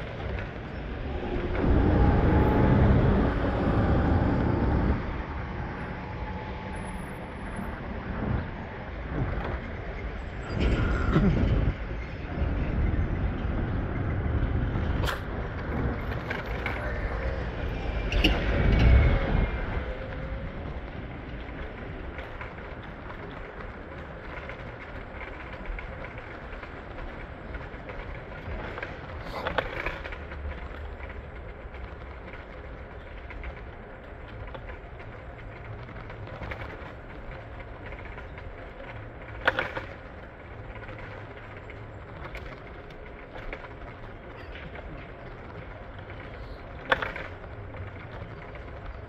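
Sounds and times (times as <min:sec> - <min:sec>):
steady traffic hum: 0:00.0 - 0:49.0.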